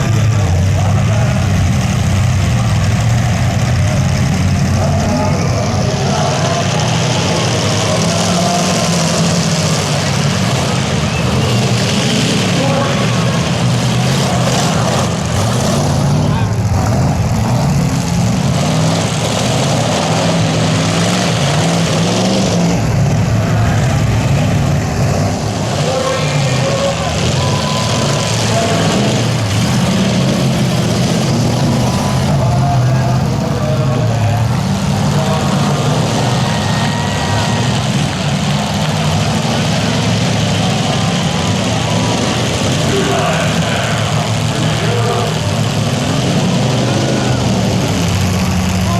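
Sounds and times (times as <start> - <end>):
car engines revving: 0.0 - 48.9
indistinct voices: 0.0 - 48.9.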